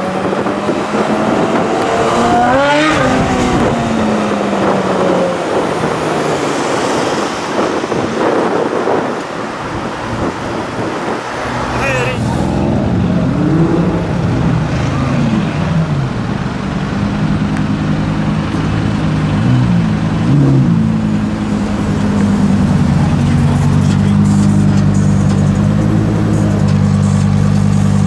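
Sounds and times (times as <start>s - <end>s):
sports car engine revving: 0.0s - 28.0s.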